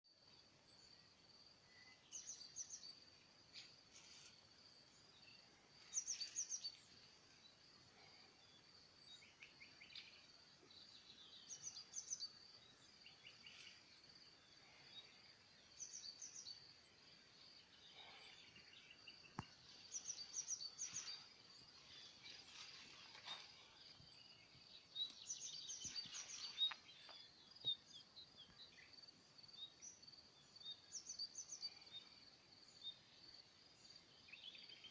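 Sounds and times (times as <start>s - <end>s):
faint songbird chirping: 0.0s - 34.9s.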